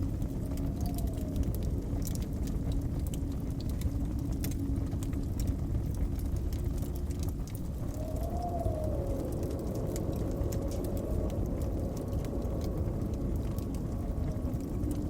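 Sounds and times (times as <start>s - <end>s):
howling blizzard wind: 0.0s - 15.0s
wood fire crackling and popping: 0.0s - 15.0s.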